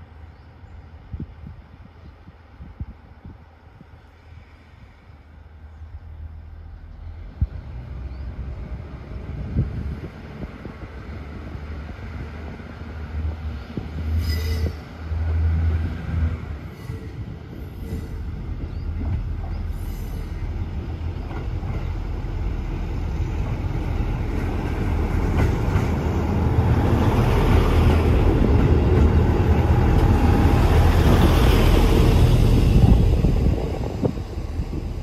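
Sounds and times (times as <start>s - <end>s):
diesel railcar passing: 0.0s - 35.0s.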